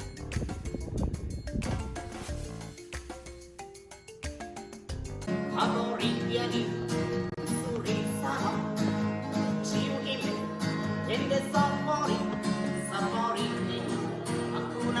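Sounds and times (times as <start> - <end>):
upbeat song with acoustic guitar: 0.0 - 15.0.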